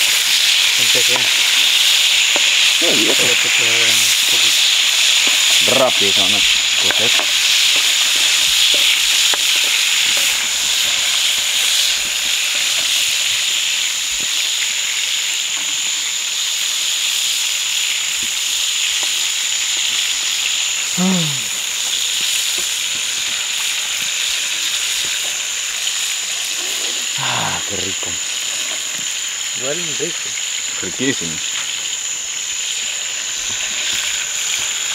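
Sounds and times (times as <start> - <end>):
shrimp sizzling in oil: 0.0 - 34.9.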